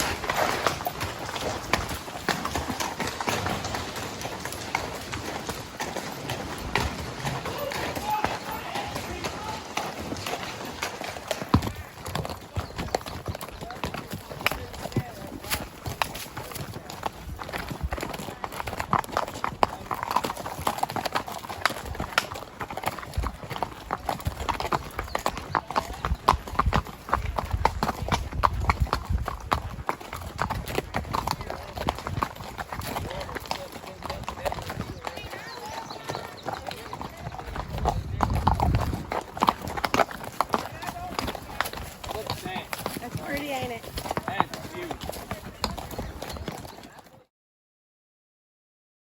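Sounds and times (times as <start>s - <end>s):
horse hoofbeats clip-clop: 0.0s - 47.3s.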